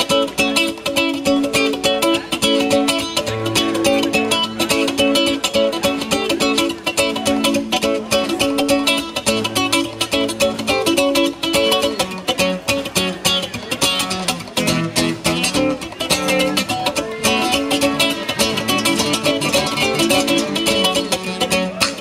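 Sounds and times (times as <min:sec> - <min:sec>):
guitar picked and strummed: 0:00.0 - 0:22.0.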